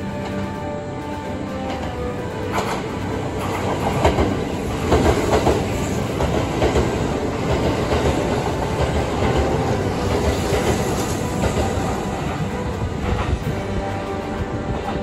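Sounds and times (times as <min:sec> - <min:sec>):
electric train rolling past: 0:00.0 - 0:15.0
wheels clacking over rail joints: 0:00.2 - 0:15.0.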